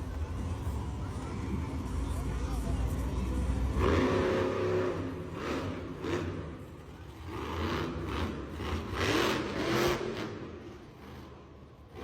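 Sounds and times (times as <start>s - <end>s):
monster truck engines revving: 0.0s - 12.0s.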